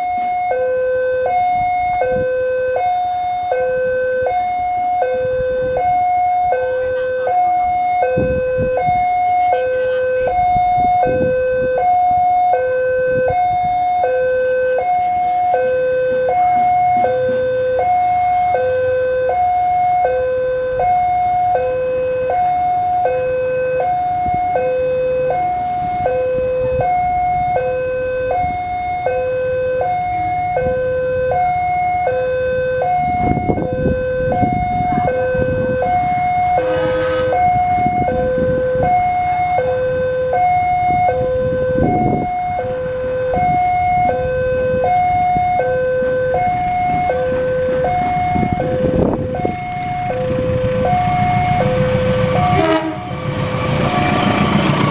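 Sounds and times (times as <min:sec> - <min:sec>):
two-note crossing alarm: 0:00.0 - 0:53.6
low rumble of traffic: 0:00.0 - 0:54.9.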